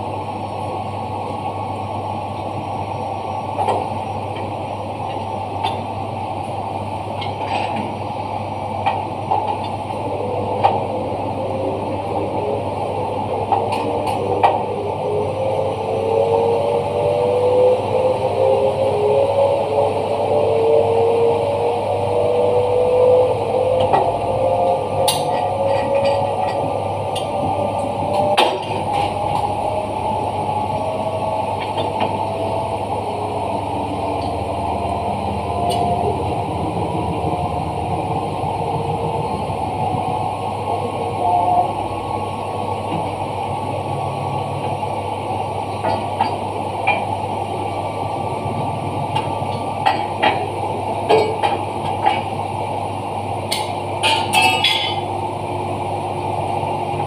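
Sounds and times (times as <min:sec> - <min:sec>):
machine motor hum with whine: 0:00.0 - 0:54.0, 0:54.8 - 0:57.0.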